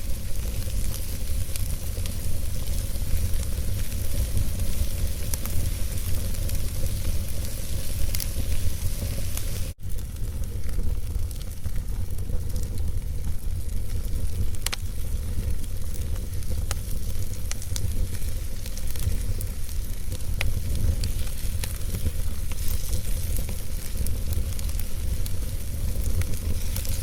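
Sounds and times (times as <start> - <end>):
continuous low rumble: 0.0 - 27.0
fire crackling and hissing: 0.0 - 27.0
sharp pops from burning logs: 0.0 - 27.0.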